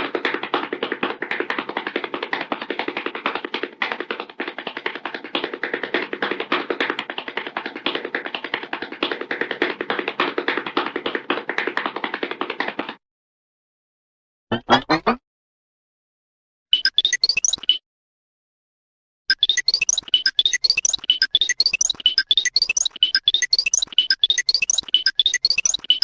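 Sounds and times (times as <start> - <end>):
cartoon rapid tapping effect: 0.0 - 13.0, 14.5 - 15.2, 16.8 - 17.8, 19.3 - 26.0.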